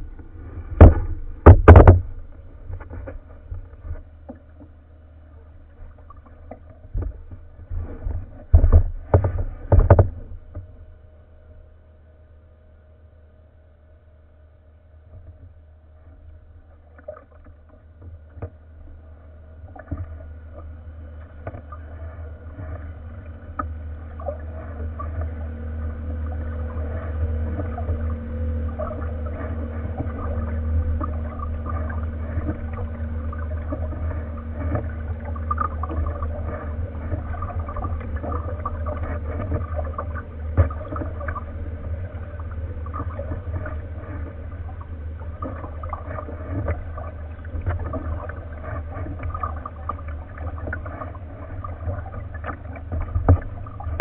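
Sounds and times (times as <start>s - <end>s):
water splashing against kayak: 0.0s - 10.9s, 15.0s - 54.0s
low rumble: 0.0s - 54.0s.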